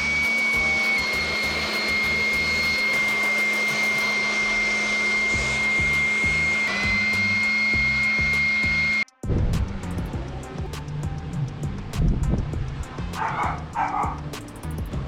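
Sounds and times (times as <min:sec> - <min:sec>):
electric blower whining: 0:00.0 - 0:15.0.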